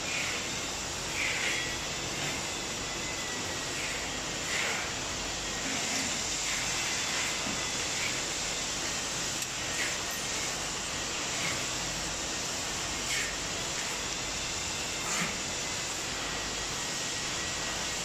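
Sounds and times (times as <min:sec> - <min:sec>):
factory background hiss: 0:00.0 - 0:18.0.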